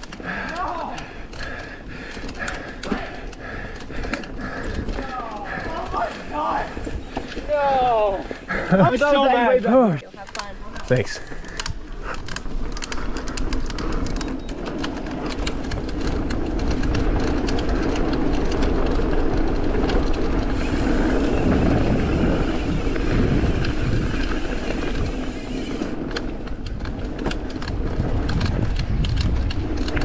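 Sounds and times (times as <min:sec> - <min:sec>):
wind noise: 0:00.0 - 0:09.5, 0:10.9 - 0:30.0
bike rattling over bumps: 0:00.0 - 0:30.0
bike tyres rushing on dirt: 0:00.0 - 0:30.0.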